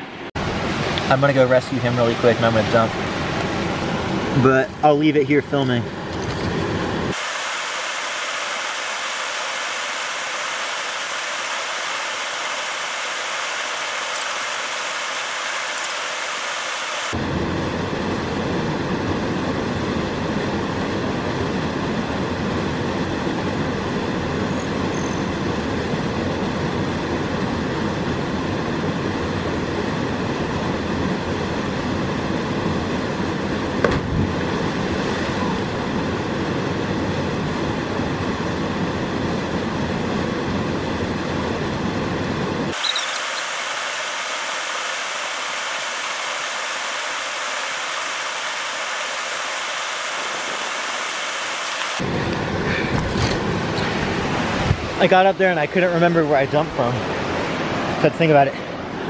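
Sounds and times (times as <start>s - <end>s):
waterfall roaring: 0.0s - 24.5s, 25.4s - 59.0s.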